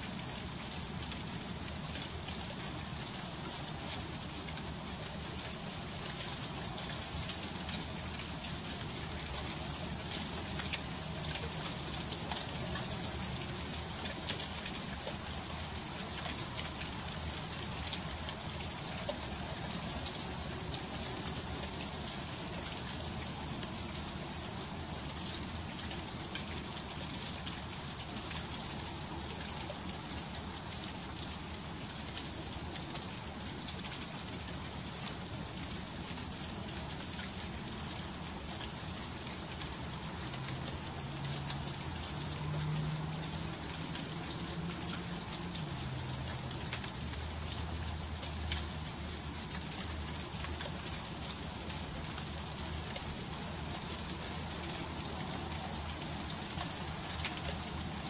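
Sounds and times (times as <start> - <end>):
freezing rain ticking: 0.1 - 58.0.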